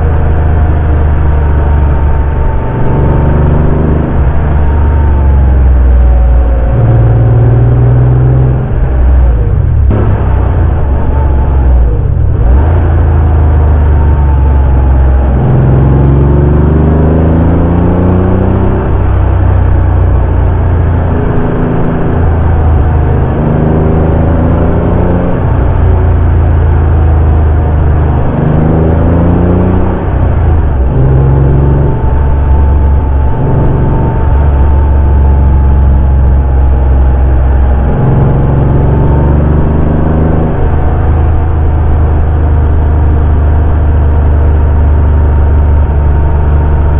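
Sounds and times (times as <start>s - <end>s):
car engine revving with gear changes: 0.0s - 46.9s.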